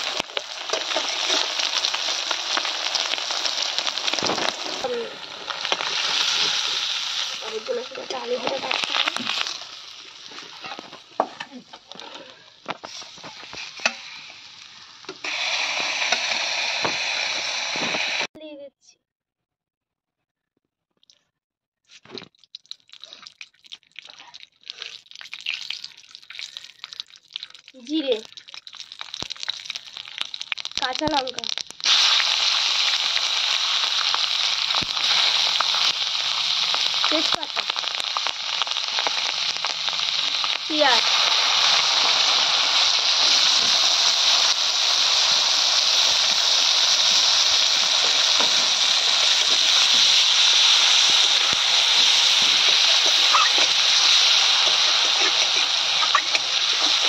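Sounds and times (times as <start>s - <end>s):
fish sizzling in hot oil: 0.0s - 18.3s, 22.4s - 57.0s.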